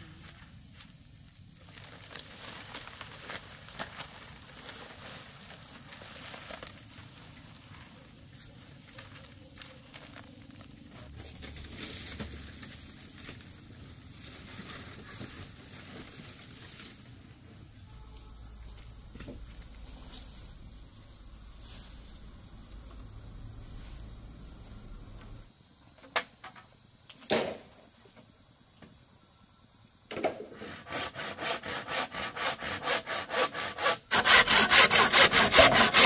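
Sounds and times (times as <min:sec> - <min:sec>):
high-pitched insect trill: 0:00.0 - 0:36.0.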